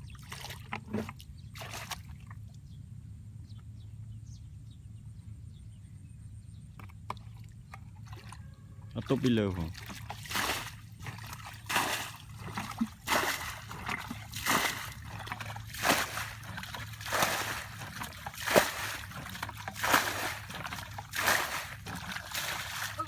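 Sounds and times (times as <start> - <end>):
water splashing and sloshing: 0.0 - 2.6, 6.7 - 23.0.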